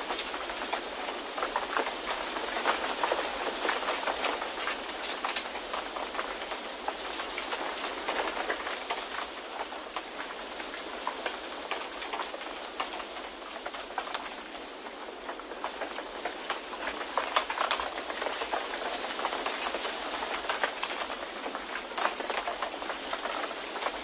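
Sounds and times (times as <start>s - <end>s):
small crackles: 0.0s - 24.0s.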